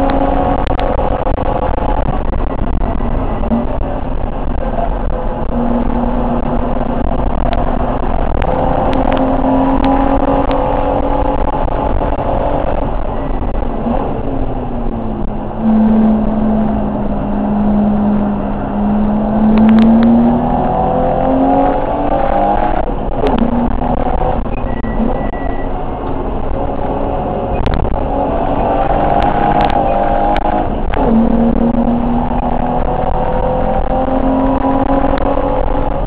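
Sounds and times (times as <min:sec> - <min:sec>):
race car engine revving: 0:00.0 - 0:36.0
road and wind noise: 0:00.0 - 0:36.0.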